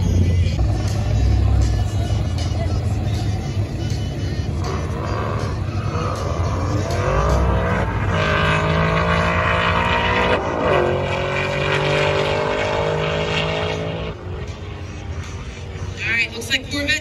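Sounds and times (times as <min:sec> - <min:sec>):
cars accelerating at full throttle: 0:00.0 - 0:16.8.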